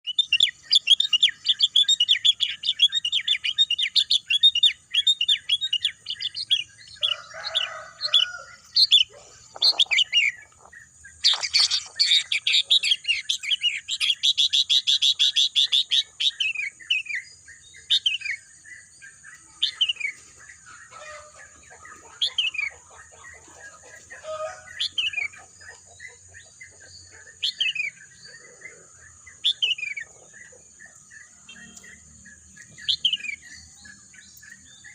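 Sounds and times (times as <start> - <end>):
birds chirping and singing: 0.0 - 34.9.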